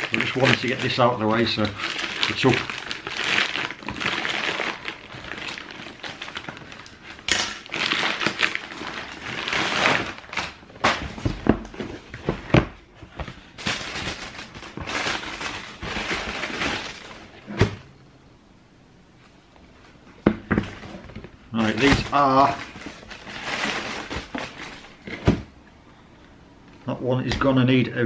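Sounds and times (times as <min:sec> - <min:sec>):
paper rustling and crinkling: 0:00.0 - 0:17.7, 0:19.8 - 0:25.4.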